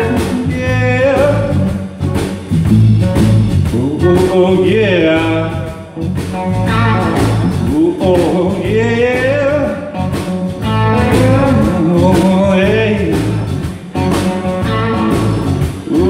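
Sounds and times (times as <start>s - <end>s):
blues-rock band playing: 0.0s - 16.0s.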